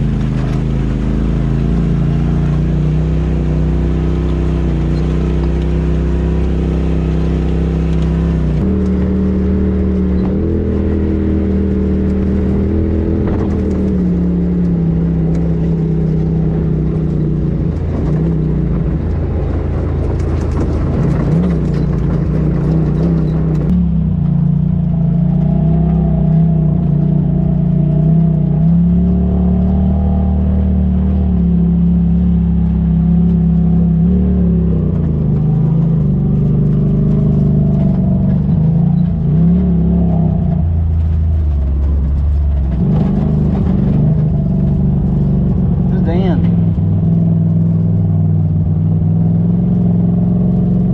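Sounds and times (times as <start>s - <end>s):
off-road vehicle engine running: 0.0s - 50.9s.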